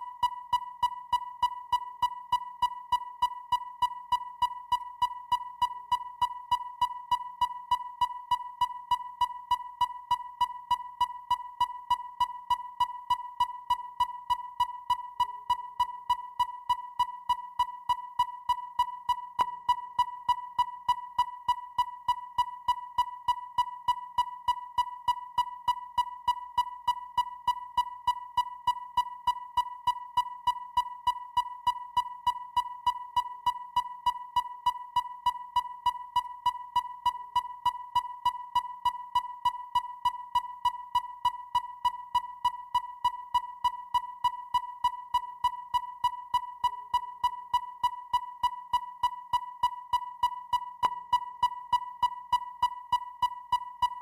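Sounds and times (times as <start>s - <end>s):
depth finder beep: 0.0s - 54.0s
sharp evenly spaced clicks: 0.2s - 54.0s.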